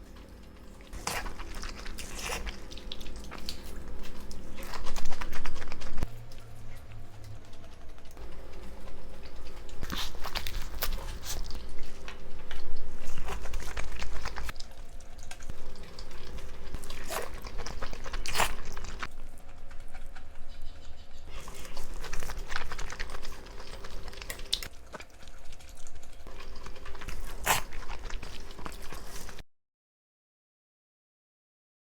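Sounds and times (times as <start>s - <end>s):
chewing and biting: 0.0s - 29.4s
sharp crunches and clicks: 0.5s - 25.1s, 26.2s - 29.4s.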